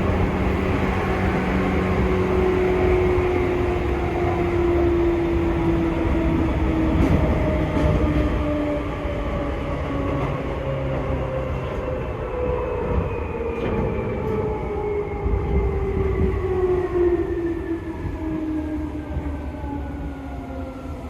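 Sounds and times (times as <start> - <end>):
train running gear rumble: 0.0 - 16.9.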